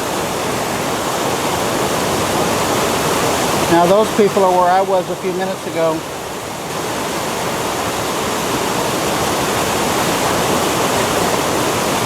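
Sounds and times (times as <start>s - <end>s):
creek water rushing over boulders: 0.0s - 12.0s.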